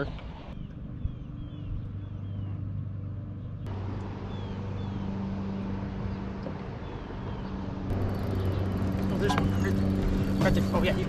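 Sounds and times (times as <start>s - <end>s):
outboard motor running: 1.0s - 11.0s.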